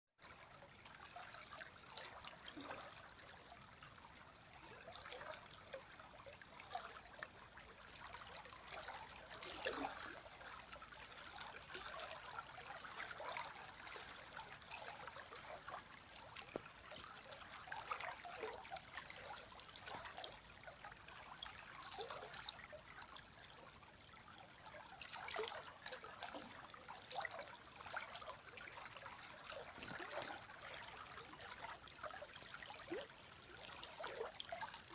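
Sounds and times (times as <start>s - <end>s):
river water babbling over stones: 0.3s - 34.9s.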